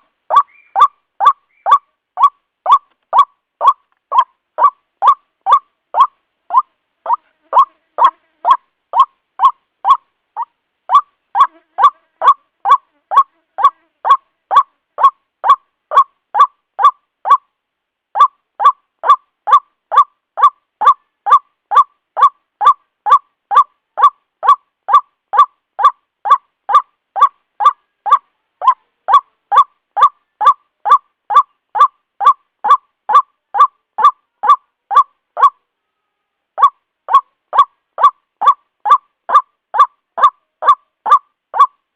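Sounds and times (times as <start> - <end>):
waterhen calling short sharp notes: 0.0 - 17.5, 18.2 - 35.6, 36.6 - 41.8.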